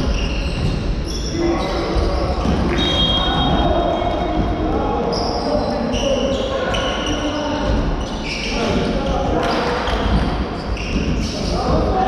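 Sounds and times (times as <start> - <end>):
sneaker squeaks: 0.0 - 12.0.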